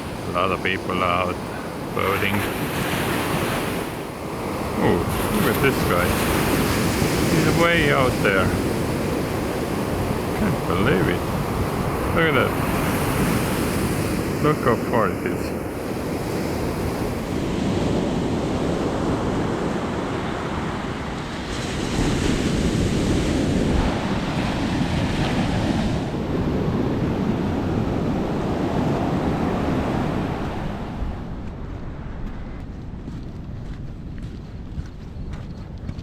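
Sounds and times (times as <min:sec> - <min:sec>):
wind buffeting microphone: 0:00.0 - 0:14.7, 0:15.5 - 0:36.0
ocean surf washing onto beach: 0:00.0 - 0:32.2.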